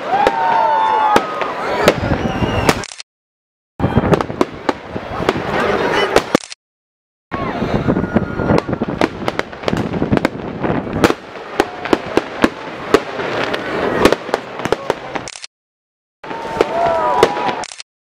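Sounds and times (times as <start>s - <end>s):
fireworks bangs and pops: 0.0s - 3.0s, 3.8s - 6.6s, 8.4s - 15.5s, 16.2s - 17.8s
fireworks crackling: 0.0s - 3.0s, 3.8s - 6.6s, 7.6s - 15.5s, 16.2s - 17.8s.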